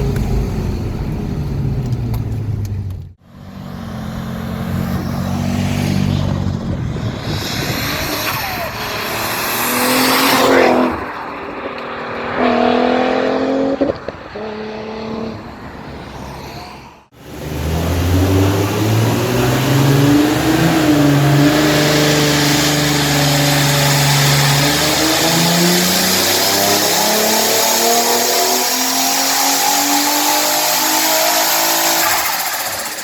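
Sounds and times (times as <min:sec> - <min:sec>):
car engine accelerating hard: 0:00.0 - 0:15.5, 0:17.2 - 0:33.0.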